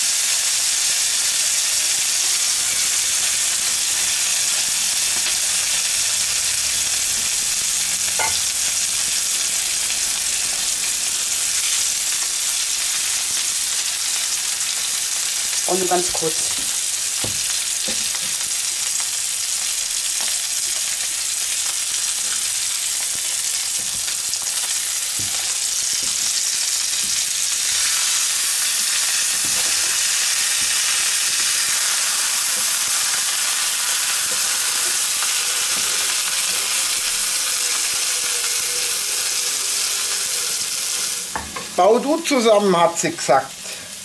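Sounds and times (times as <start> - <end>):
frying sizzle in a pan: 0.0 - 44.0.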